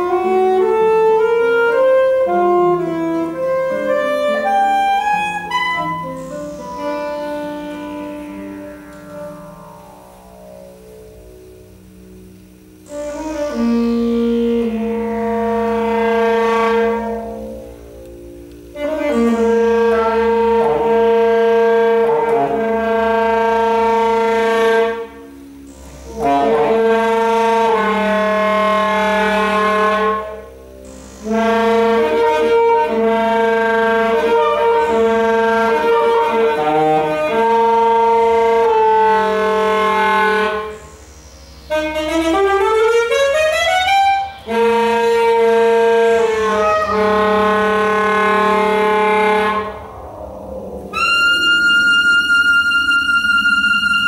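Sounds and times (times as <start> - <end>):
saxophone playing held notes: 0.0 - 54.0.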